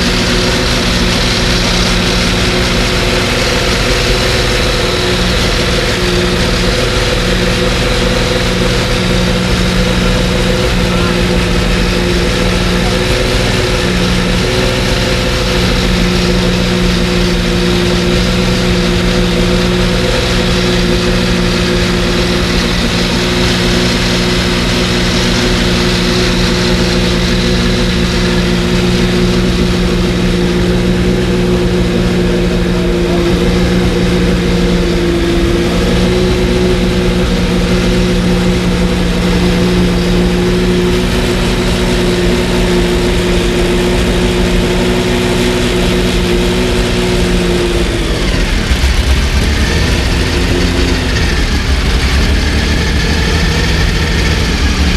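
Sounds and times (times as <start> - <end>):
racing engine running steadily: 0.0 - 54.9.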